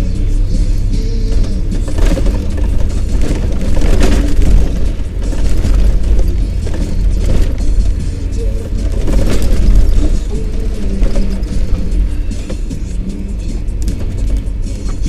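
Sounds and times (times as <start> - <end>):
car driving on rough road: 0.0 - 15.0
suspension knocks: 1.1 - 15.0.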